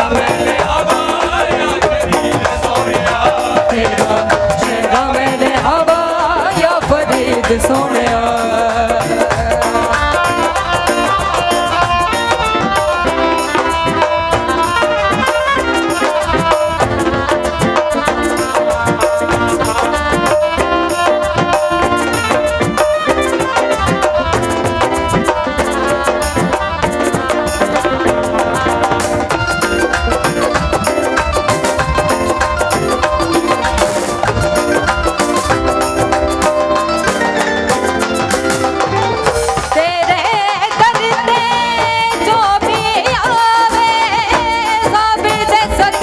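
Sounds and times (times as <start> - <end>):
gliding melodic lead: 0.0 - 40.1
drum and percussion rhythm: 0.0 - 46.0.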